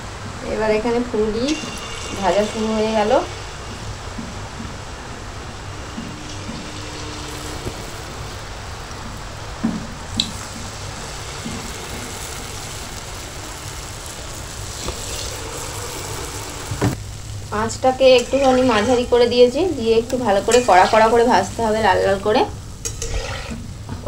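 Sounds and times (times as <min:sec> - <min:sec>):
batter sizzling in hot oil: 0:00.0 - 0:24.0.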